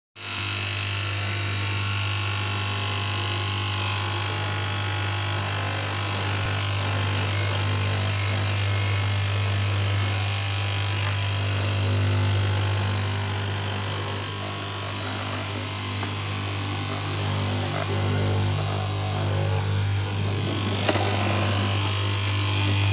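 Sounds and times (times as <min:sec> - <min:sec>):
cloth cutting machine droning: 0:00.2 - 0:22.9.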